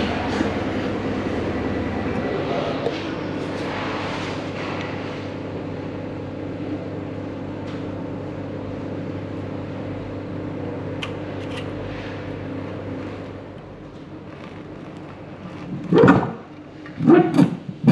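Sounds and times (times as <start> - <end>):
machinery humming: 0.0 - 17.9.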